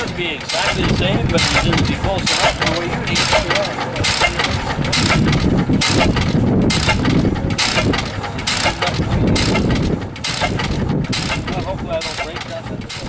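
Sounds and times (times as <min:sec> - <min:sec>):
stationary engine running: 0:00.0 - 0:13.0.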